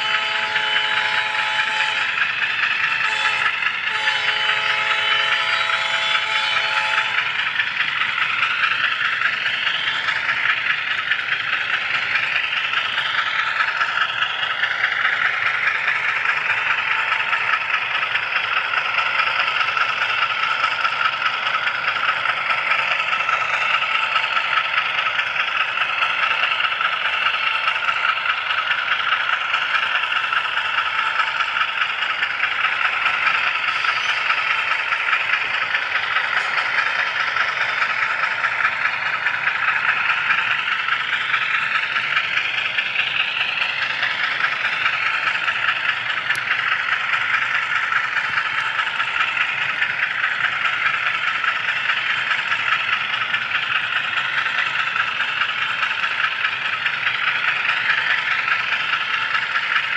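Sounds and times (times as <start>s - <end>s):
model train wheels rattling on rails: 0.0s - 59.9s.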